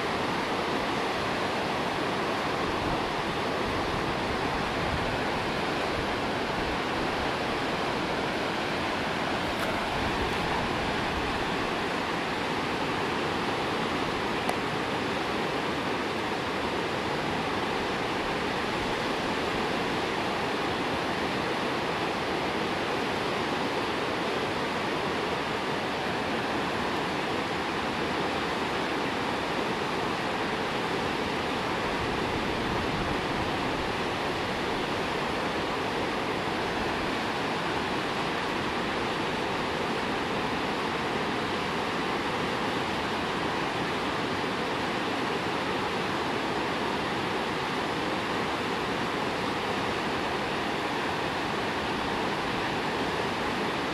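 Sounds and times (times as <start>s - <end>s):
whitewater rapids roaring: 0.0s - 53.9s.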